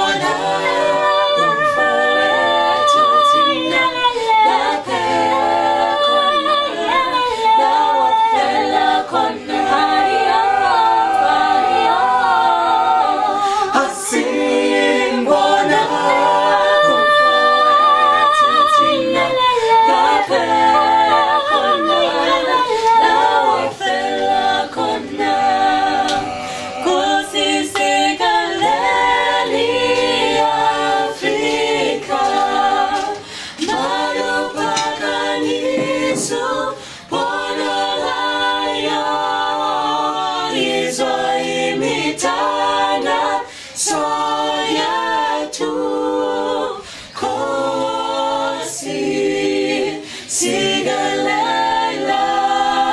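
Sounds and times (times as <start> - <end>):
mixed choir singing a cappella: 0.0 - 52.9.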